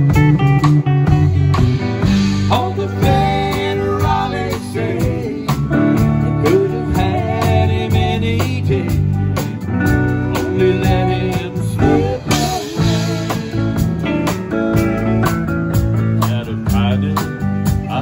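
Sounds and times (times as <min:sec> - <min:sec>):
live country band playing: 0:00.0 - 0:18.0.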